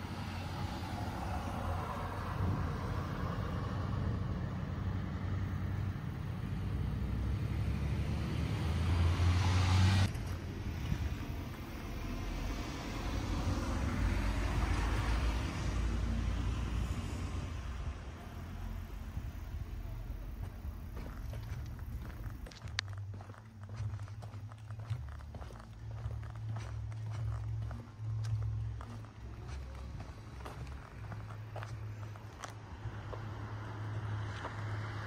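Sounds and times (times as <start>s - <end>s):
passing vehicle whoosh: 0.0s - 22.5s, 27.9s - 35.0s
low vehicle rumble: 0.0s - 35.0s.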